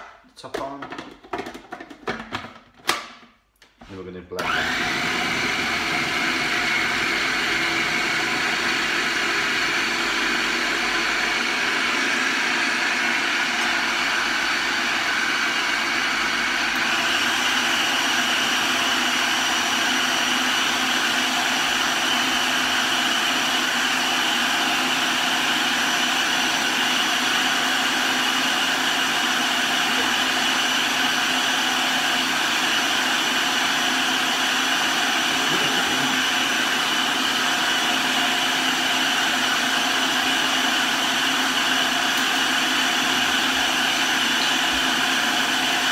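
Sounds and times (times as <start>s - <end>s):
food processor whining: 4.4s - 45.9s.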